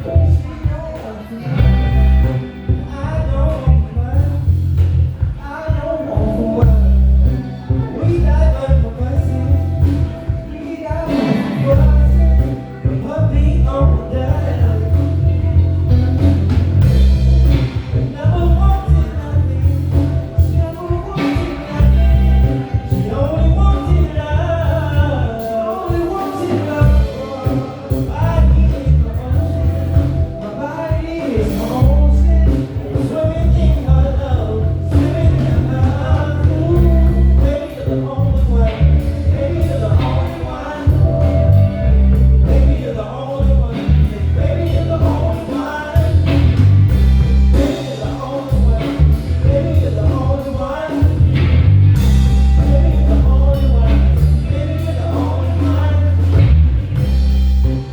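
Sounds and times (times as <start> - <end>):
drums: 0.0 - 57.9
heavy bass: 0.0 - 57.9
lead melody line: 0.0 - 57.9
live band playing: 0.0 - 57.9.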